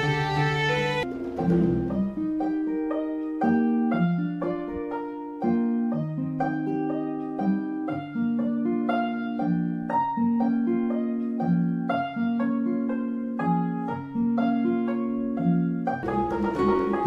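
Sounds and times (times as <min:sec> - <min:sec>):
plucked instrumental music: 0:00.0 - 0:17.0.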